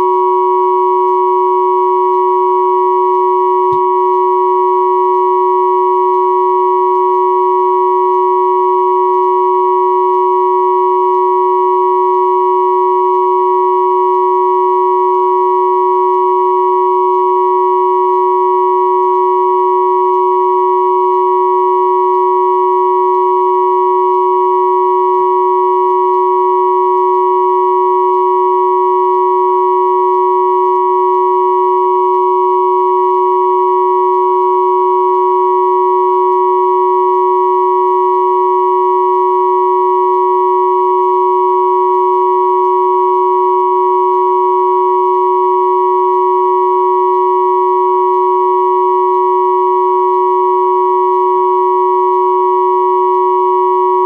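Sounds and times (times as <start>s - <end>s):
synthesized sine tone chord: 0.0s - 54.0s.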